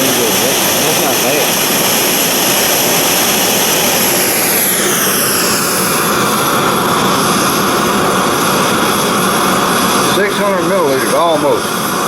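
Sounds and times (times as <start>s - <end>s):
gas stove burner hissing: 0.0s - 12.0s.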